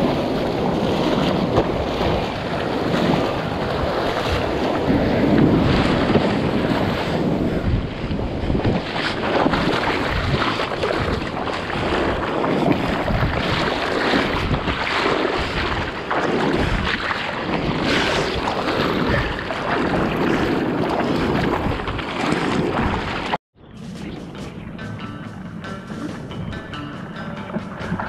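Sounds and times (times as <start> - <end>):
ocean surf: 0.0 - 23.4
rushing seawater: 0.0 - 23.4
wind buffeting microphone: 0.0 - 28.0.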